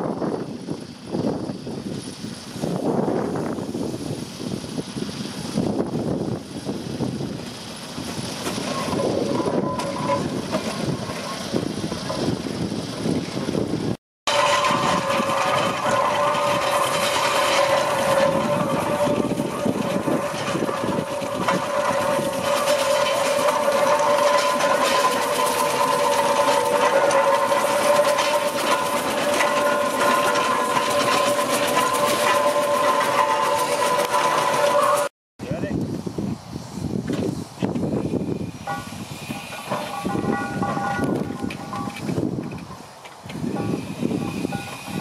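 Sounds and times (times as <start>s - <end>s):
steam engine gearing whine: 0.0s - 45.0s.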